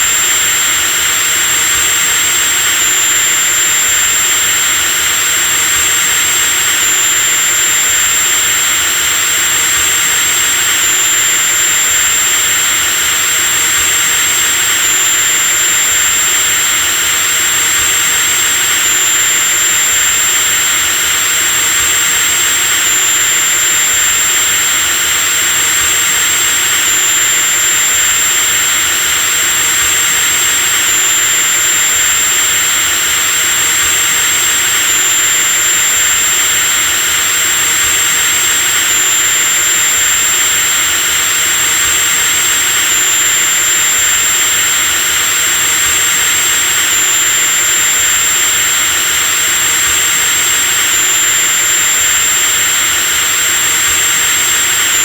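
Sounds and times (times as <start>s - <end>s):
electric drill motor whining: 0.0s - 55.0s.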